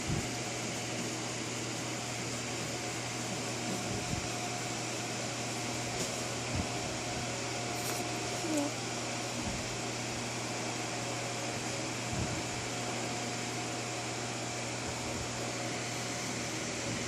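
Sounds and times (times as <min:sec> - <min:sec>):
fan whirring hum: 0:00.0 - 0:17.0.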